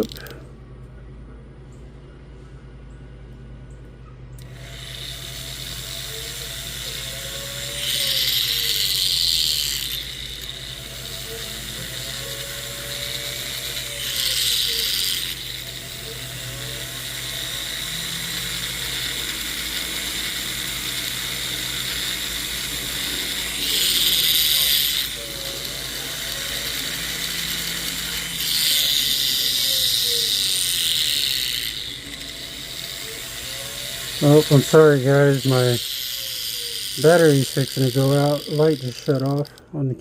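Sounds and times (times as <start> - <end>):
rotary tool grinding metal chain: 0.0 - 0.4, 4.4 - 39.8.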